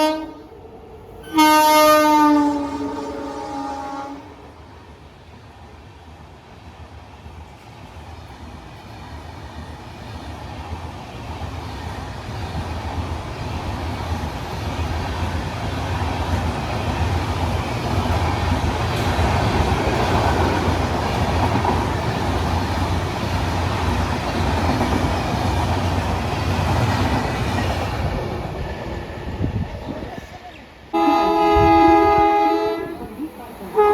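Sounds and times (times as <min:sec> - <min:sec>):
train wheels on rails: 0:00.0 - 0:33.9.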